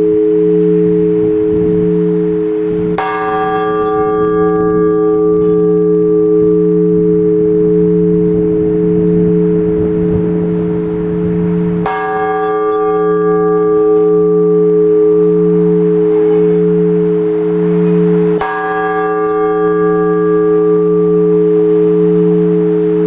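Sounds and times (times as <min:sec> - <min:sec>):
large church bell ringing: 0:00.0 - 0:23.0.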